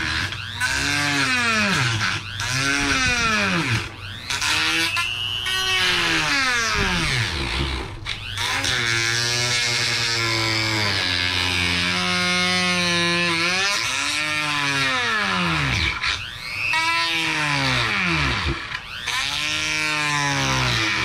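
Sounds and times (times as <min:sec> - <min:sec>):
rotary tool cutting whine: 0:00.0 - 0:21.0.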